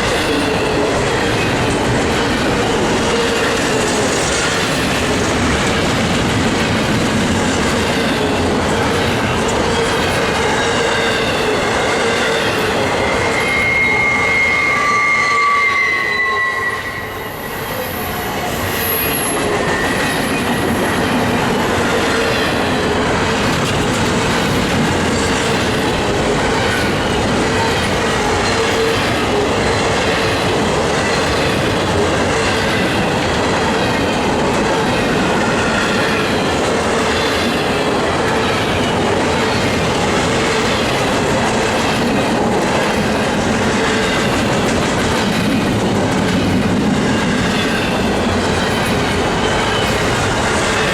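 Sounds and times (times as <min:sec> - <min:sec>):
freight train rumbling past: 0:00.0 - 0:50.9
train wheel squeal: 0:00.0 - 0:50.9.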